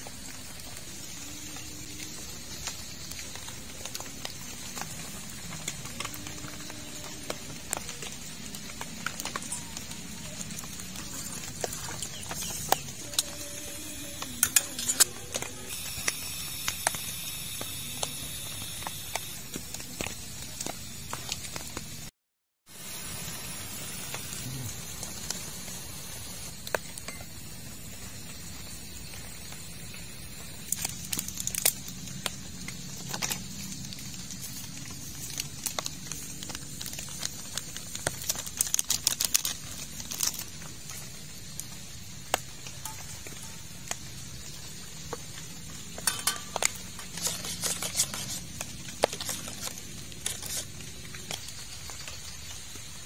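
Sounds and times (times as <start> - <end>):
steady hiss: 0.0 - 22.1, 22.7 - 53.0.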